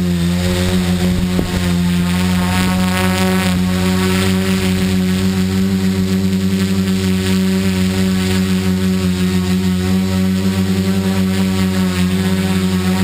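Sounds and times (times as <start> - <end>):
drone propellers buzzing: 0.0 - 13.0.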